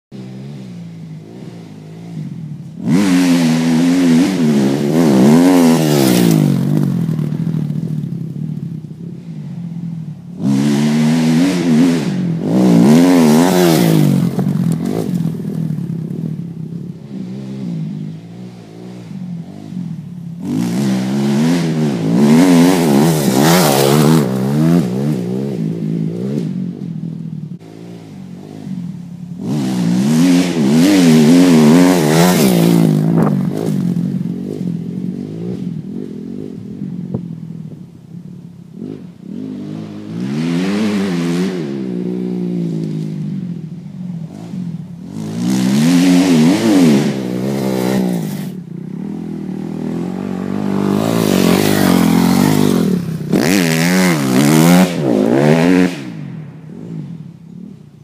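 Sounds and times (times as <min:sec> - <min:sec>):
dirt bike engine revving: 0:00.2 - 0:37.8, 0:38.7 - 0:57.8.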